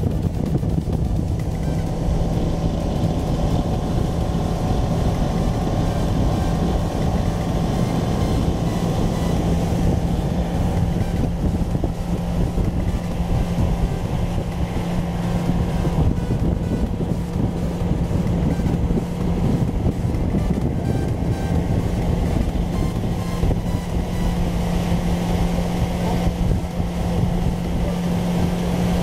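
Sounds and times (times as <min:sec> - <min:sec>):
outboard motor droning: 0:00.0 - 0:29.0.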